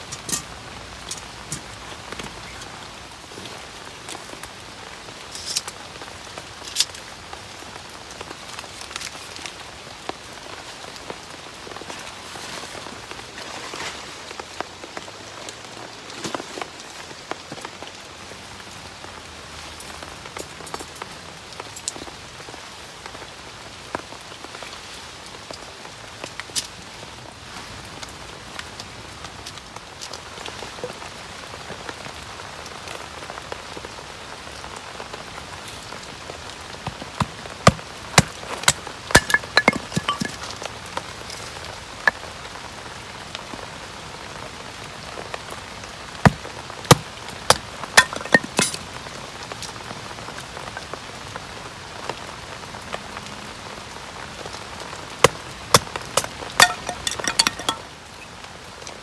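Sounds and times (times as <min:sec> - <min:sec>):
steady rain: 0:00.0 - 0:39.2, 0:40.3 - 0:48.0, 0:48.8 - 0:56.6, 0:57.8 - 0:59.0.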